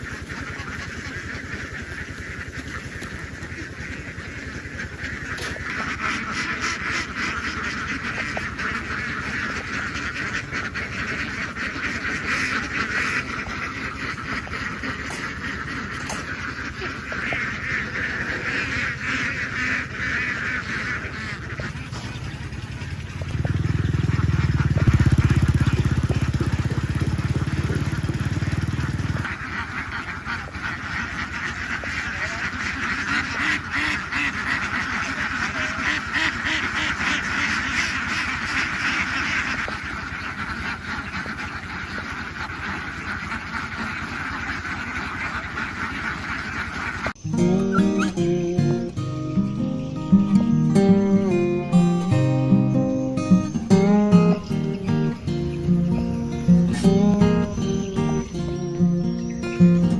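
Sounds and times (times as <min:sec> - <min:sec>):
ducks quacking: 0:00.0 - 0:59.9.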